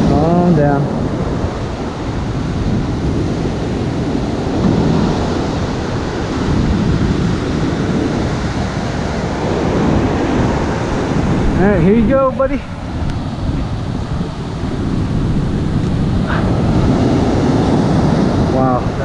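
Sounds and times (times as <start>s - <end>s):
surf breaking on beach: 0.0s - 19.0s
wind on microphone: 0.0s - 19.0s.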